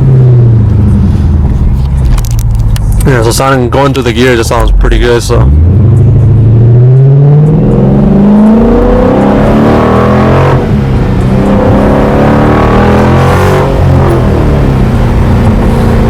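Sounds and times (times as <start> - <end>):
car engine accelerating hard: 0.0 - 3.6, 4.4 - 16.0.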